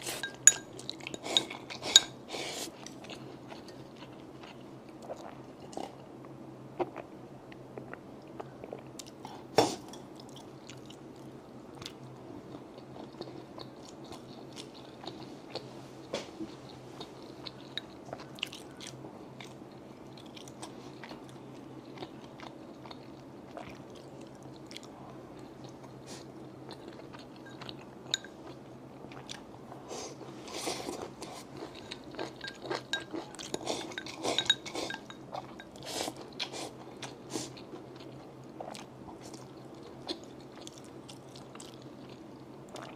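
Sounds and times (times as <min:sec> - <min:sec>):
steady low hum: 0:00.0 - 0:42.9
chewing and crunching food: 0:02.8 - 0:09.4, 0:10.0 - 0:15.7, 0:16.5 - 0:29.8, 0:30.4 - 0:42.9.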